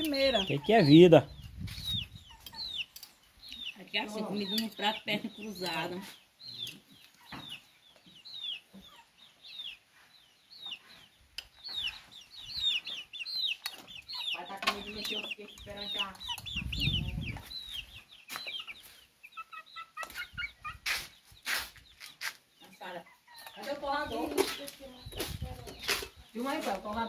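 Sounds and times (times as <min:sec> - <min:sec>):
young chickens peeping: 0:00.0 - 0:27.0.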